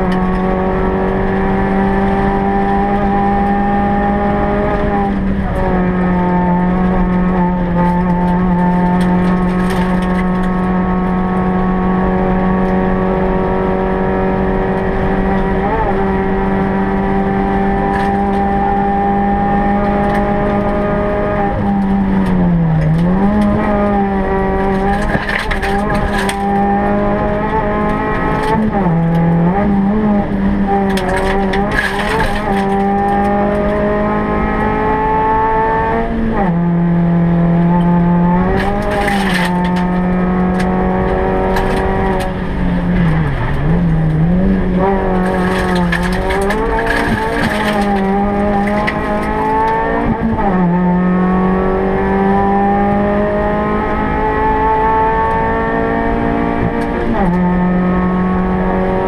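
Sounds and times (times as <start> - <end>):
car engine revving high: 0.0 - 59.0
tyre and road noise: 0.0 - 59.0.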